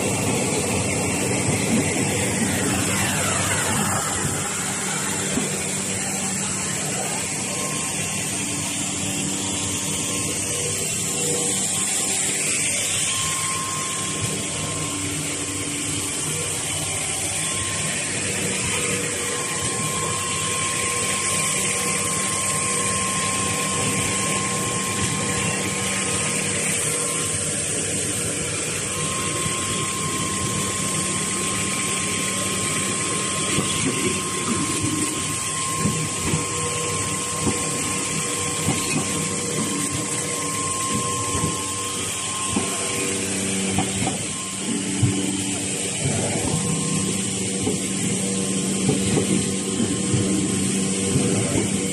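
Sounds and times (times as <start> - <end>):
machine noise: 0.0 - 51.9
thin machine whine: 0.0 - 51.9.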